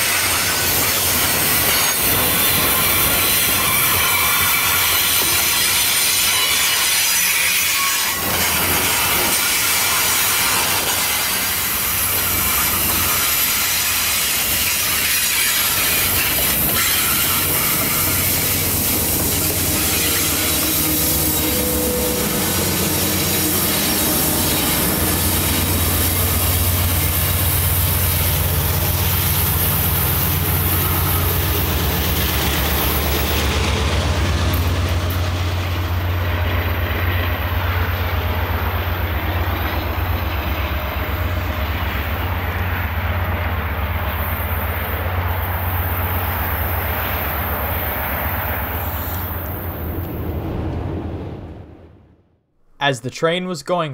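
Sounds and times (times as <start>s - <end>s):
steel wheels rumbling on rail: 0.0s - 52.0s
diesel locomotive engine drone: 0.0s - 52.3s.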